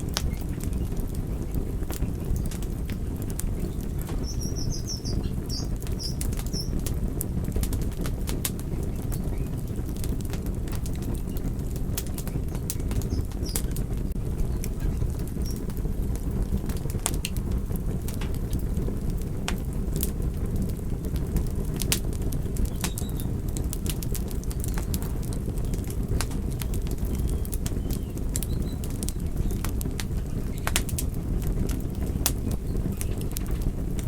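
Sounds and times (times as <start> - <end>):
fire crackling with pops: 0.0 - 34.0.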